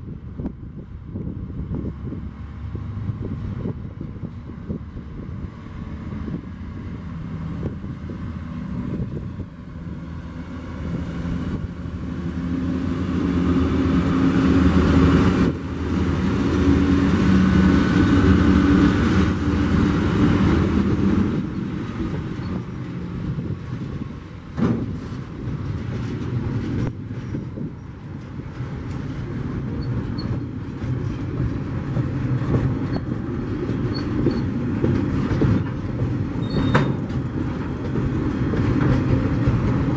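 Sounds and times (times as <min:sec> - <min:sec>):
diesel locomotive engine drone: 0:00.0 - 0:39.9
train wheels rumbling: 0:00.0 - 0:39.9.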